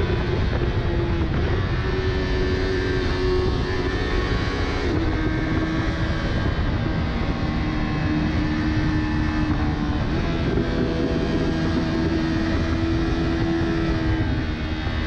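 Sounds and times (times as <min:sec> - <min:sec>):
motorcycle engine at high revs: 0:00.0 - 0:15.0
wind rush on microphone: 0:00.0 - 0:15.0.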